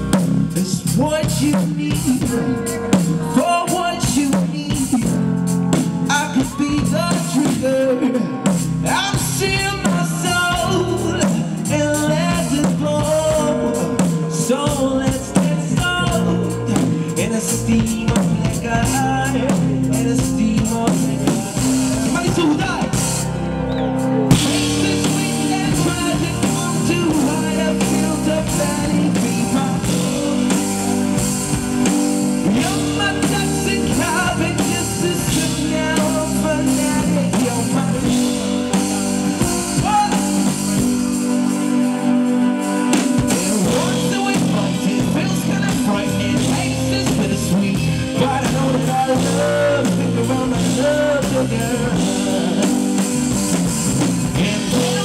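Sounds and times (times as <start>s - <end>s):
live band music: 0.0s - 55.0s
man singing into a microphone: 0.0s - 55.0s.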